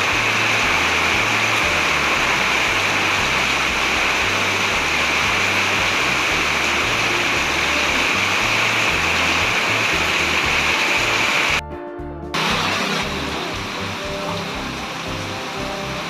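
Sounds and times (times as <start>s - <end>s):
heavy rain pouring: 0.0s - 11.6s, 12.4s - 16.0s
background music bass line: 0.0s - 16.0s.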